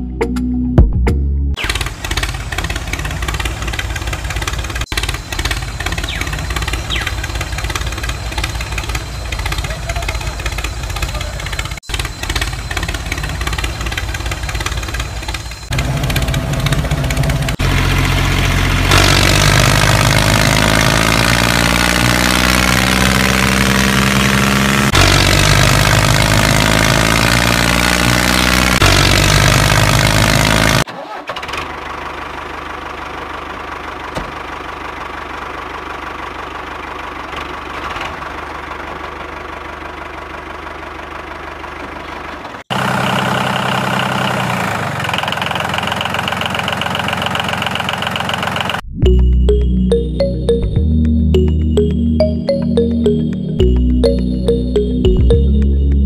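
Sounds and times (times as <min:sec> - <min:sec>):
tractor engine revving and idling: 0:01.6 - 0:56.0.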